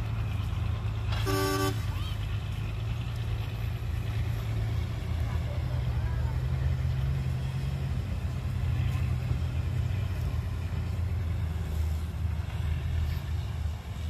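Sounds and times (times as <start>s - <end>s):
heavy diesel engine rumbling: 0.0s - 14.0s.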